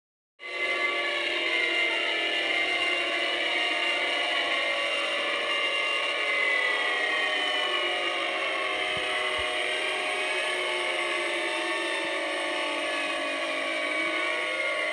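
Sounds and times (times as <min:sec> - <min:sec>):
tornado warning sirens: 0:00.4 - 0:14.9.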